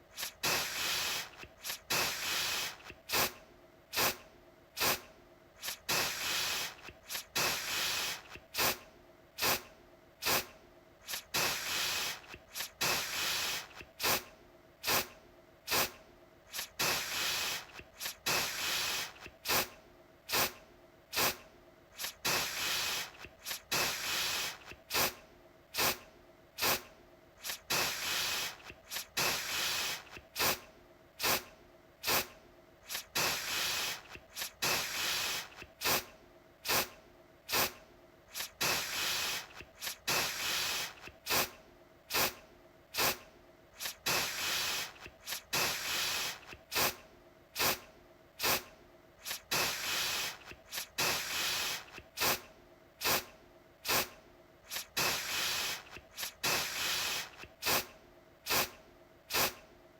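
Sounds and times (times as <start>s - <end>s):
aerosol can spraying: 0.1s - 4.2s, 4.8s - 8.8s, 9.4s - 15.1s, 15.7s - 21.4s, 22.0s - 25.2s, 25.8s - 26.0s, 26.6s - 43.2s, 43.8s - 47.0s, 47.6s - 47.8s, 48.4s - 57.9s, 58.5s - 59.6s.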